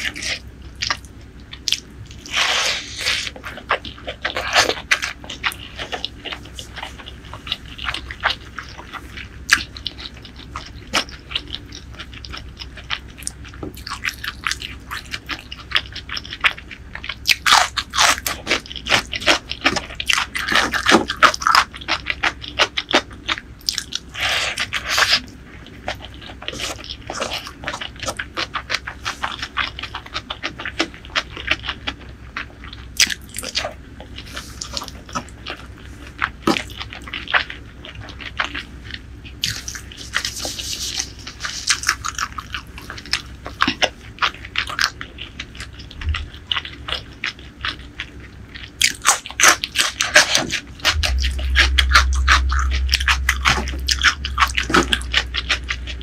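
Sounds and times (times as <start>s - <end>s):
close chewing: 0.0s - 56.0s.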